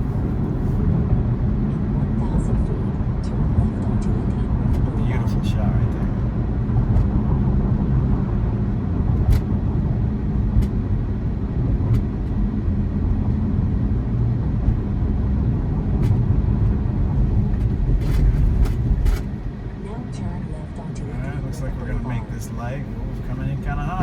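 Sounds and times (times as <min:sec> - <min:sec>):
tyre and road rumble: 0:00.0 - 0:24.0.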